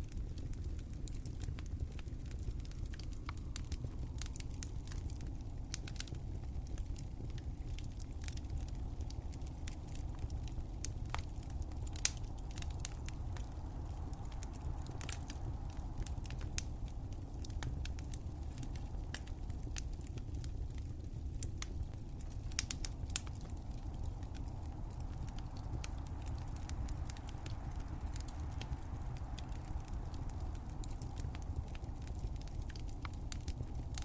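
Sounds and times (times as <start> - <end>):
low rumble of flames: 0.0 - 34.0
wood fire crackling: 0.0 - 34.0.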